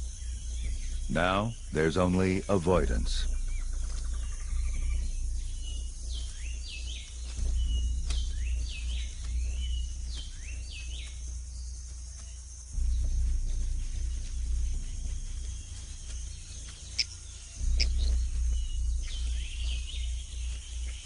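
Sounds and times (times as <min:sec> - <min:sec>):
birds swooping calls: 0:00.0 - 0:21.0
high insect drone: 0:00.0 - 0:21.0
low rumble: 0:00.0 - 0:21.0.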